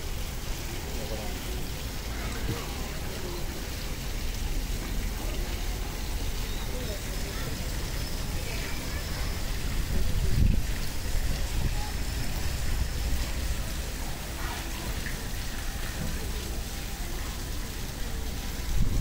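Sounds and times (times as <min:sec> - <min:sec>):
distant voices murmuring: 0:00.0 - 0:19.0.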